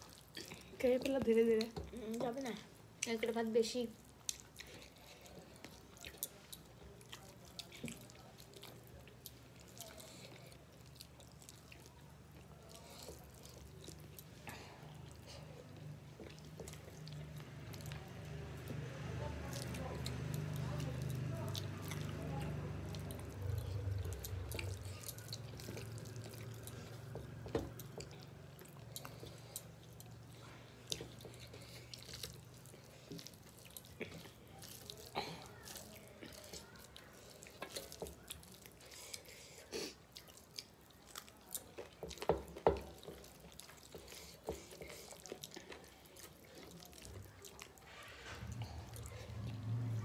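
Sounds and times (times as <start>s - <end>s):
chewing: 0.0s - 50.0s
fingers squishing wet food: 0.0s - 50.0s.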